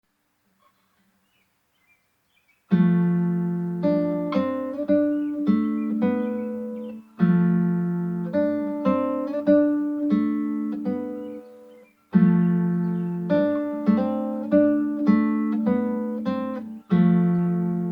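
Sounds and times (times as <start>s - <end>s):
acoustic guitar: 2.7s - 17.9s.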